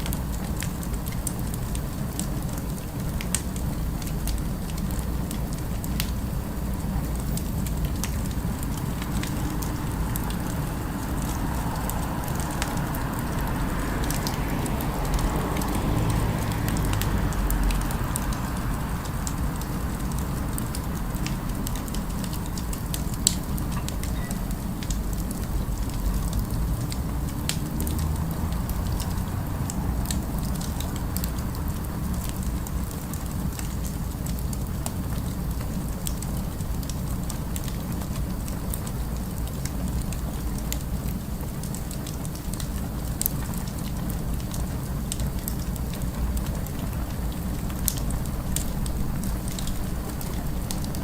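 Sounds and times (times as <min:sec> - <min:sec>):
fireplace crackling and popping: 0:00.0 - 0:51.0
low city rumble: 0:00.0 - 0:51.0.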